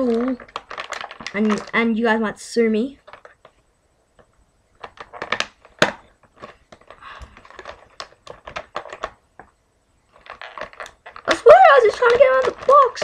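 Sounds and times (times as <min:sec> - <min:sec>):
plastic packaging clicking and crinkling: 0:00.0 - 0:02.0, 0:03.0 - 0:03.6, 0:04.2 - 0:13.0.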